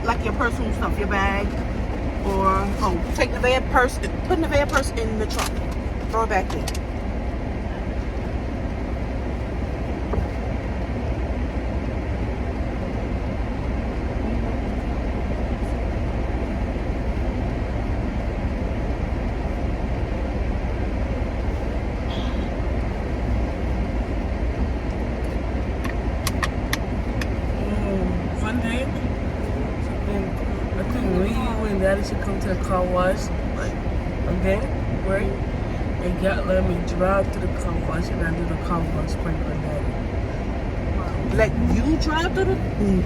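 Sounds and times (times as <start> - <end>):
car engine rumble: 0.0 - 43.0.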